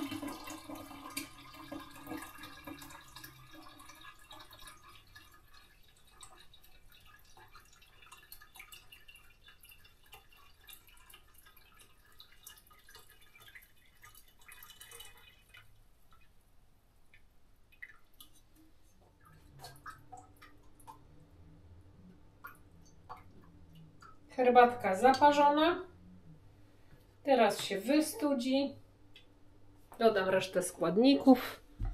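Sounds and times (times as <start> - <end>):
liquid dripping: 0.0 - 28.4
low steady hum: 0.0 - 31.9.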